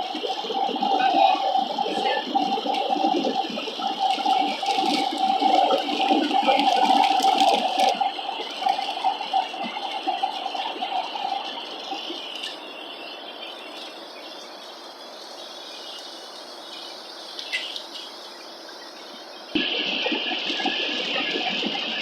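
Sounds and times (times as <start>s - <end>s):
airliner cabin noise: 0.0s - 22.0s.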